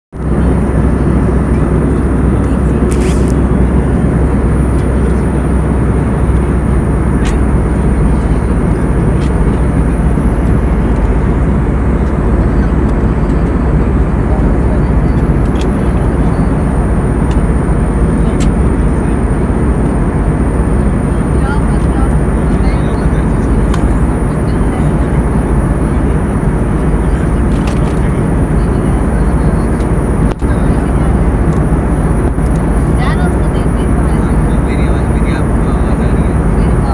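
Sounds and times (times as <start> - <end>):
airliner cabin rumble: 0.1 - 36.9.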